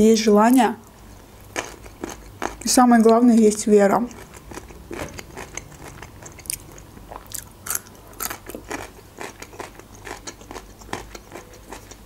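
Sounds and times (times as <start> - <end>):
crisp crunching of pickle: 1.4 - 12.0.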